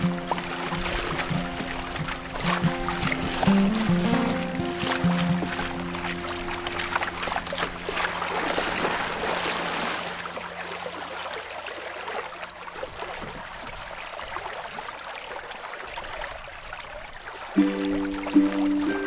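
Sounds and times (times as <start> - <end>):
water splashing between hulls: 0.0 - 19.0.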